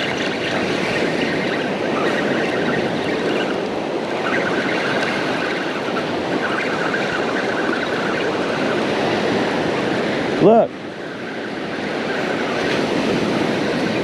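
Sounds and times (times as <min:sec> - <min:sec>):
faint high whine: 0:00.0 - 0:14.0
ocean surf washing on beach: 0:00.0 - 0:14.0
wind on microphone: 0:00.0 - 0:14.0.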